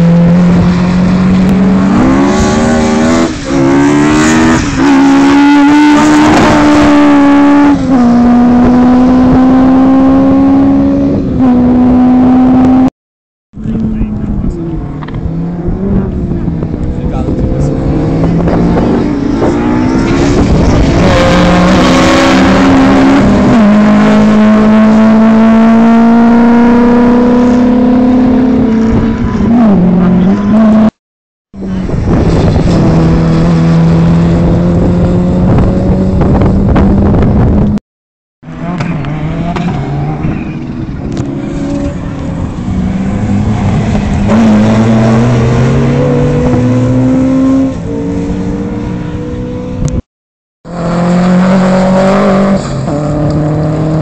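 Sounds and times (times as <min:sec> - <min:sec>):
rally car engines revving: 0:00.0 - 0:12.9, 0:13.6 - 0:31.0, 0:31.6 - 0:37.8, 0:38.4 - 0:50.0, 0:50.7 - 0:54.0.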